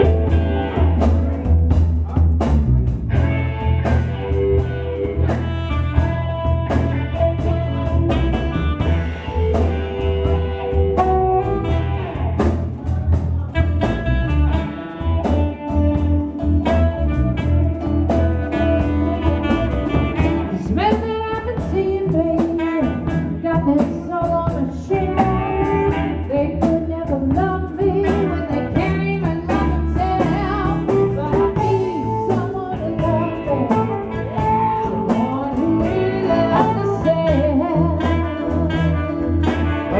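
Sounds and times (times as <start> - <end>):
blues band playing: 0.0 - 39.9
heavy bass line: 0.0 - 39.9
steady drum beat: 0.0 - 39.9.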